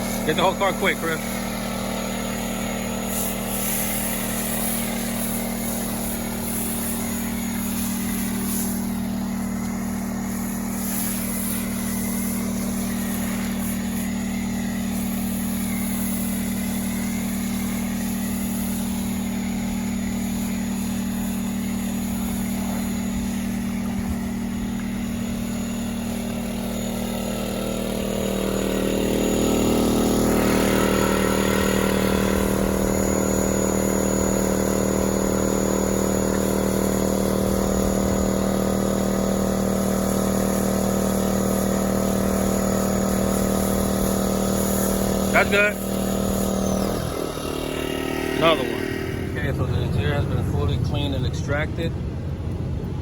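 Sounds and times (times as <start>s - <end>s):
pressure washer engine running: 0.0s - 53.0s.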